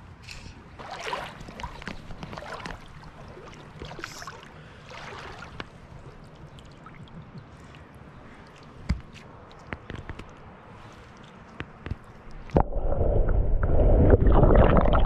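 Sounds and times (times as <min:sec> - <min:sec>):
river water splashing and sloshing: 0:00.7 - 0:15.0.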